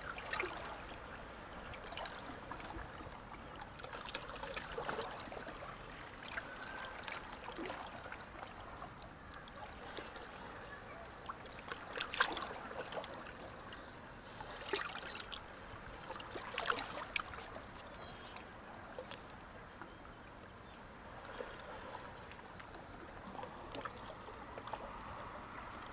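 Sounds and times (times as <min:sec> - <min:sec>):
small waves washing on shore: 0:00.0 - 0:25.9.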